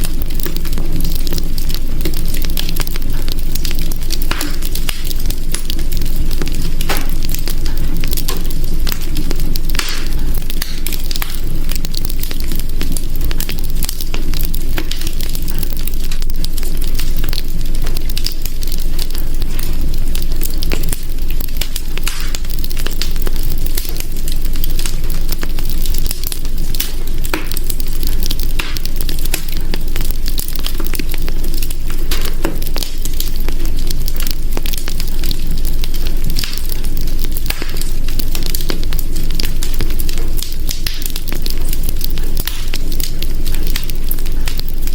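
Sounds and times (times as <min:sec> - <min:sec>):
fire crackling and popping: 0:00.0 - 0:44.9
low rumble of burning: 0:00.0 - 0:44.9.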